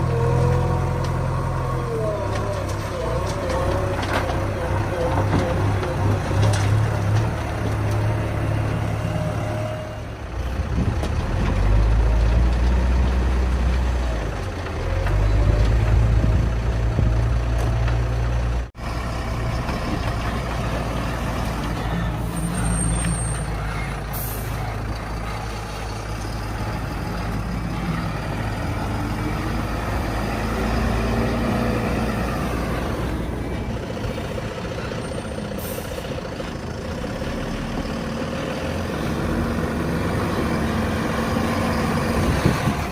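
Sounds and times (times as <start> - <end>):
heavy diesel engines revving: 0.0 - 42.9.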